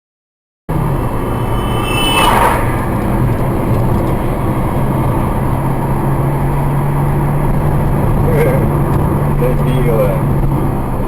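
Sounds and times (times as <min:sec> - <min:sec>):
road noise: 0:00.7 - 0:11.0
vehicle engine hum: 0:00.7 - 0:11.0.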